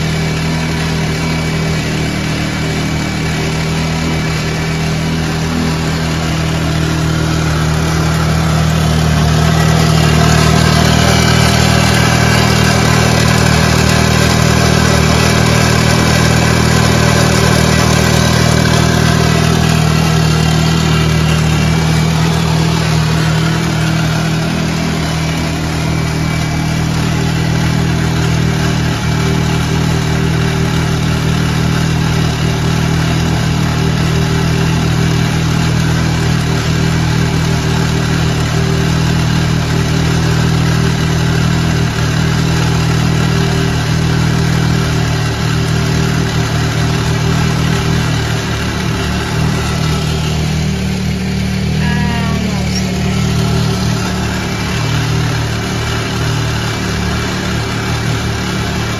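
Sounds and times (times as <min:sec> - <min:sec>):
utility vehicle engine idling: 0:00.0 - 0:58.9.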